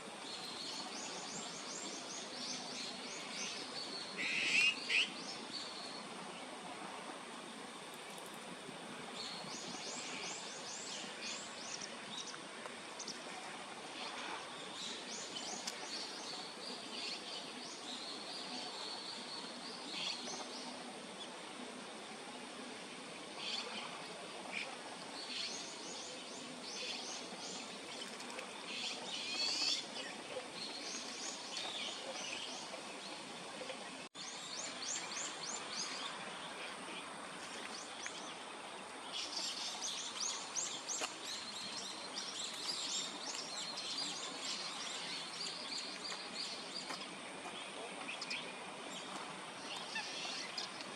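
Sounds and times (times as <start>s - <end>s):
steady background hiss: 0.0s - 50.9s.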